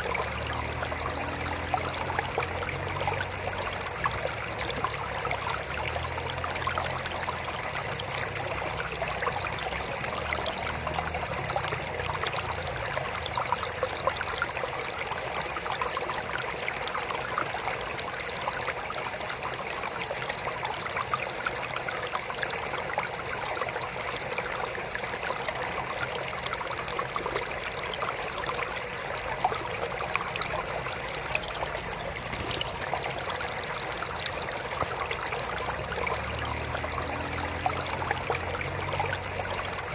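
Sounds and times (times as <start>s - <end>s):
water trickling in aquarium: 0.0s - 39.9s.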